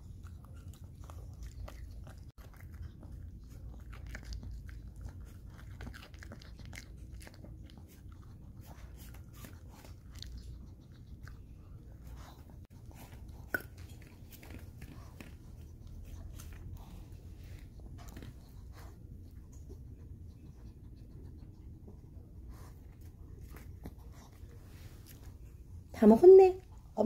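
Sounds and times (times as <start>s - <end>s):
dog chewing and crunching food: 0.0s - 27.0s.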